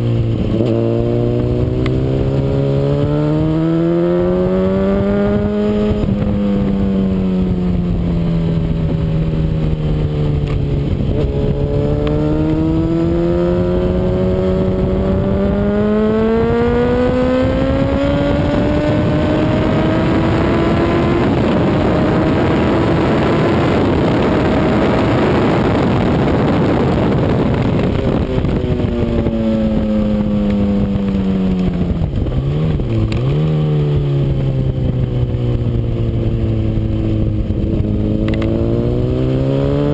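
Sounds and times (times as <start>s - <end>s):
motorcycle engine at full throttle: 0.0s - 39.9s
wind rush: 0.0s - 39.9s.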